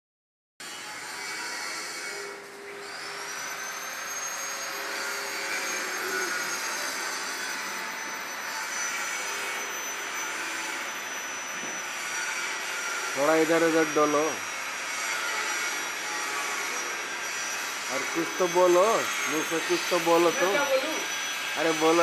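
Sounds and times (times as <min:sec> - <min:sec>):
high machine whine: 0:02.2 - 0:22.0.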